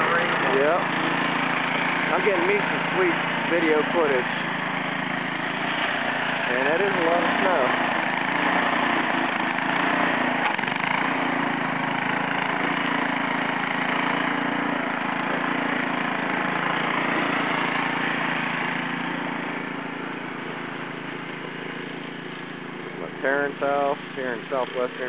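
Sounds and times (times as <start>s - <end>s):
snowblower engine running: 0.0s - 25.0s.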